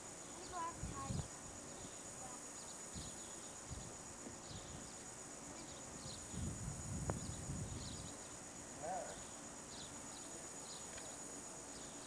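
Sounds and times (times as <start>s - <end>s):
faint high whine: 0.0s - 12.0s
tape hiss: 0.0s - 12.0s.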